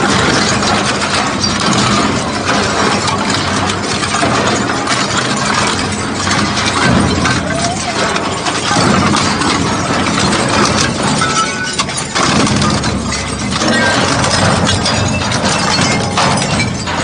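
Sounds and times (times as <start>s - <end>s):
metal clanks and crunches: 0.0s - 17.0s.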